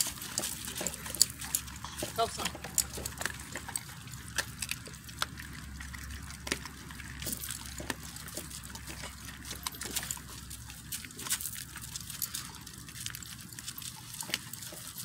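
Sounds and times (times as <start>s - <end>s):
dogs tearing and chewing meat: 0.0s - 15.0s.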